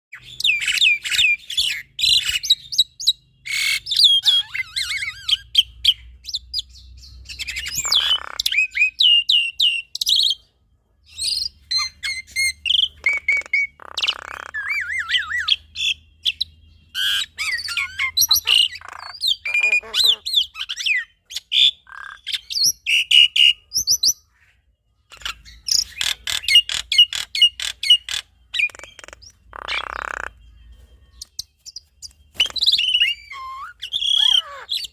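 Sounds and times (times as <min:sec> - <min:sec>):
harsh rasping bird calls: 0:00.1 - 0:10.5, 0:11.1 - 0:34.9
birds singing chirps and whistles: 0:00.1 - 0:34.9.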